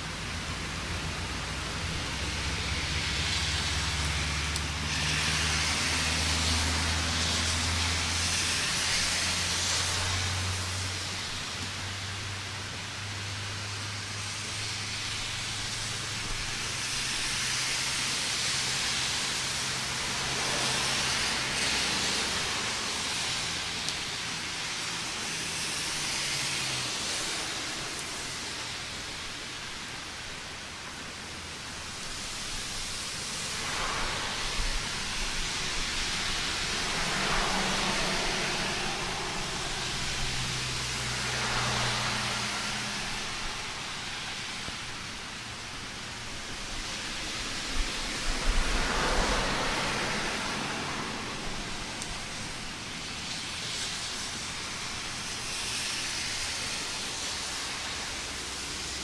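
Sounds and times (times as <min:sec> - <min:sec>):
steady rain: 0:00.0 - 0:59.0
tyres hissing on wet road: 0:00.0 - 0:59.0
vehicle engine hum: 0:00.0 - 0:59.0.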